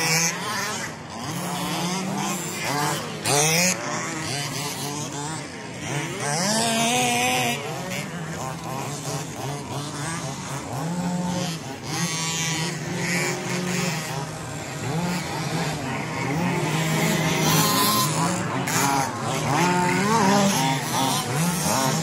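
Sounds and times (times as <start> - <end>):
electric toy car motors whining: 0.0 - 22.0.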